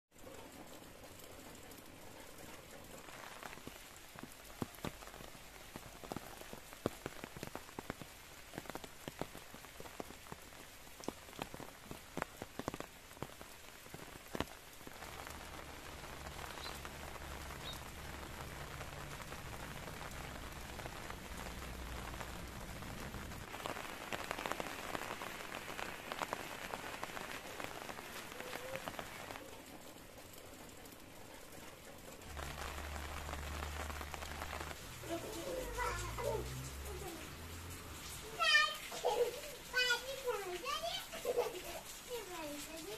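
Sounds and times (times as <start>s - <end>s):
rain falling on foliage: 0.1s - 42.9s.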